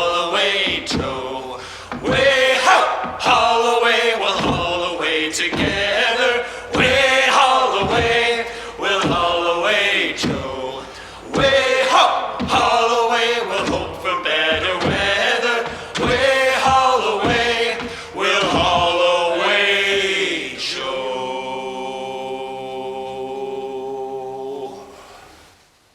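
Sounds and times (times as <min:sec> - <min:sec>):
group singing a sea shanty: 0:00.0 - 0:25.5.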